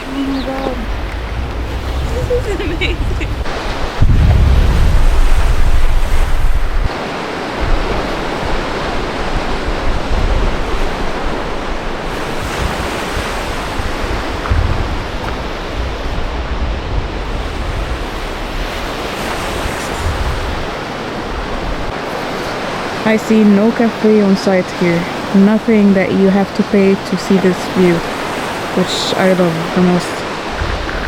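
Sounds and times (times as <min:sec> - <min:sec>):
sea surf: 0:00.0 - 0:31.0
wind on microphone: 0:00.0 - 0:31.0.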